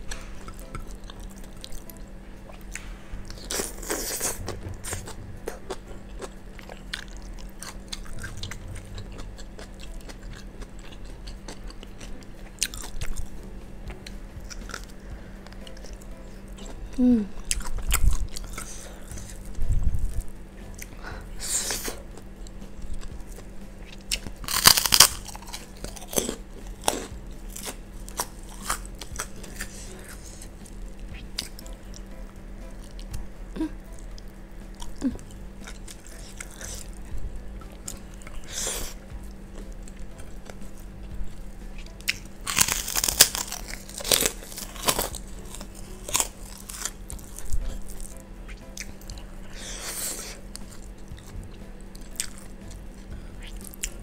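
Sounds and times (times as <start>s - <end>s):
chewing with crunchy bites: 0.0s - 33.3s, 33.9s - 54.0s.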